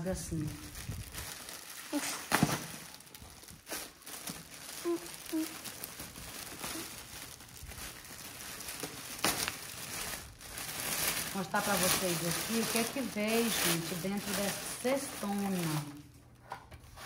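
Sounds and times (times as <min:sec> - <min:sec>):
cellophane crinkling: 0:00.0 - 0:16.2
cellophane ripping: 0:00.3 - 0:16.1.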